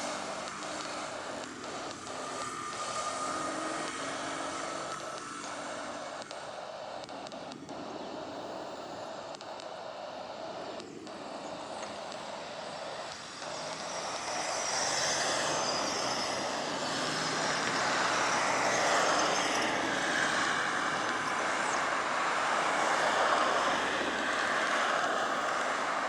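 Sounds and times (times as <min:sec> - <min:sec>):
faint shifting whine: 0:00.0 - 0:26.0
jet engine roar: 0:00.0 - 0:26.0.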